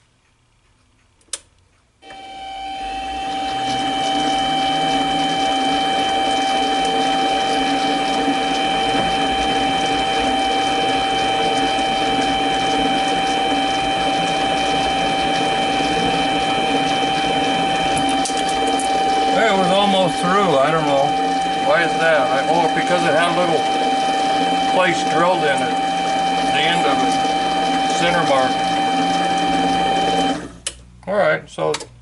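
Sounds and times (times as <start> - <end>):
lathe motor whining: 2.0 - 30.7.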